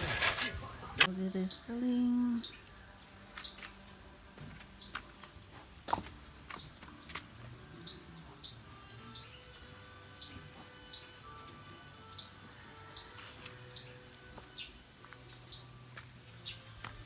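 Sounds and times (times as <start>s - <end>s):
insect chirps: 0.0s - 17.0s
high-pitched insect drone: 1.0s - 17.0s.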